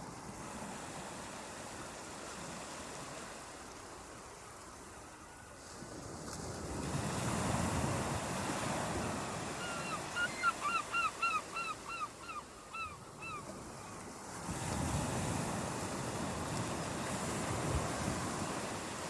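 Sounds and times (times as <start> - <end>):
surf washing on beach: 0.0 - 11.4, 13.5 - 19.0.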